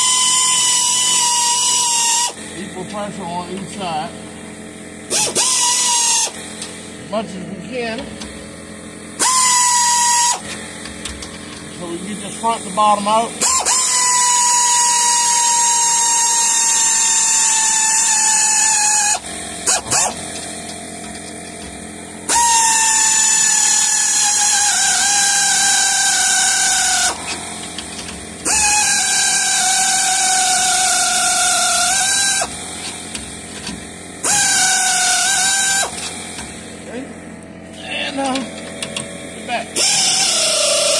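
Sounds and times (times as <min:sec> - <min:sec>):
pneumatic air ratchet whine: 0:00.0 - 0:40.9.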